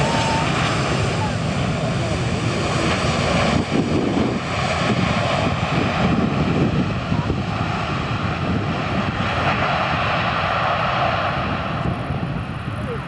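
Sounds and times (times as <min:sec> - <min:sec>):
faint jet engine whine: 0:00.0 - 0:13.0
jet engines rumbling: 0:00.0 - 0:13.0.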